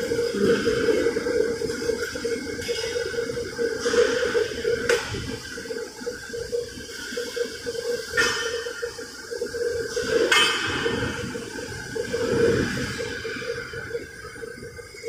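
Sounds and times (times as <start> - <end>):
workshop machine humming: 0.0 - 15.0.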